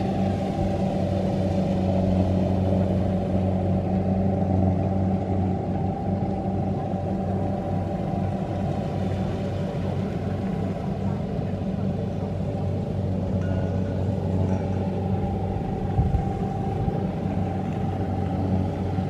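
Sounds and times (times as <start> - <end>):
heavy machine engine humming: 0.0 - 19.0
steady engine whine: 0.0 - 19.0.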